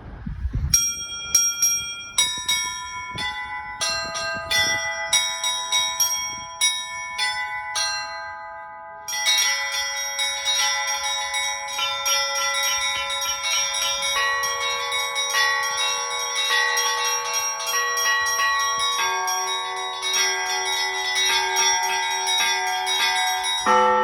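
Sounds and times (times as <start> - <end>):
large bells ringing: 0.7 - 24.0
lower bell ringing: 0.7 - 24.0
small high bells struck quickly: 0.8 - 24.0.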